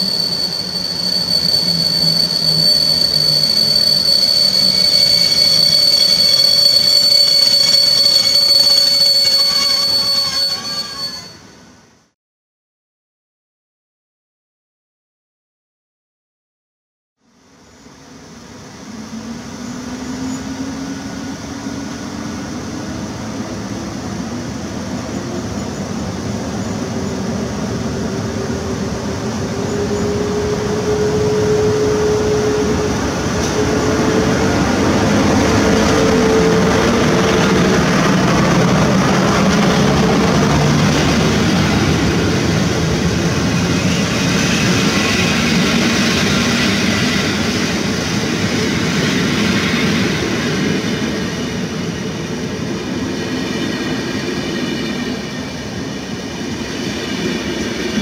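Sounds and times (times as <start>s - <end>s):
electric locomotive passing: 0.0s - 11.8s, 17.6s - 58.0s
rising locomotive whine: 0.0s - 12.2s, 17.2s - 58.0s.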